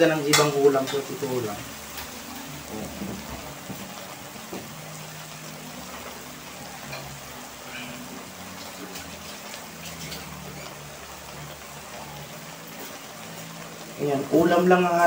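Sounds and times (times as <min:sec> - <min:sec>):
sauce sizzling and bubbling in wok: 0:00.0 - 0:15.0.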